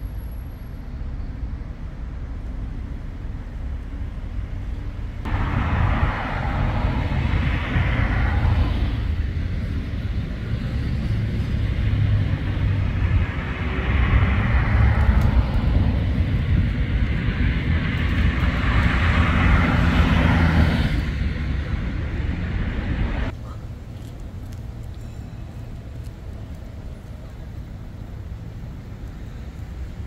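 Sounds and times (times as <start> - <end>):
vehicles passing on street: 0.0 - 30.0.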